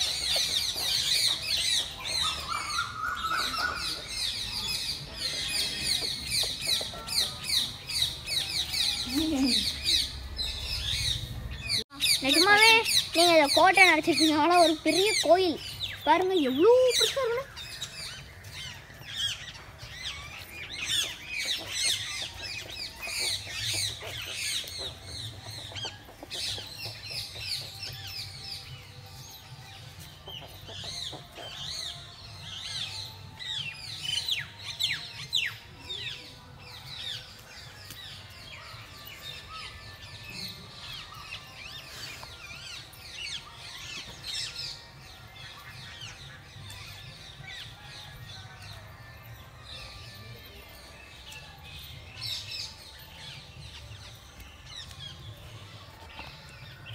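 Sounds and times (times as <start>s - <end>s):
birds chirping and twittering: 0.0s - 56.9s.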